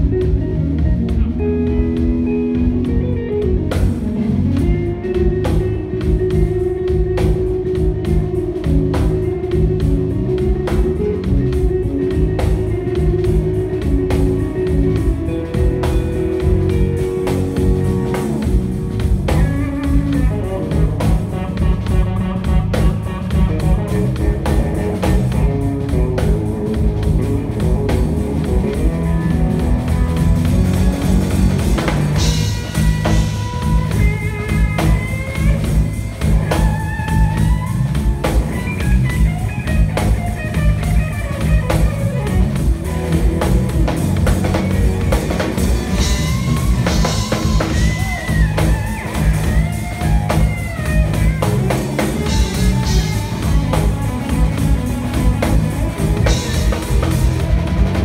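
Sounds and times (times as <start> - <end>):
drum kit: 0.0 - 58.0
electric guitar lead lines: 0.0 - 58.0.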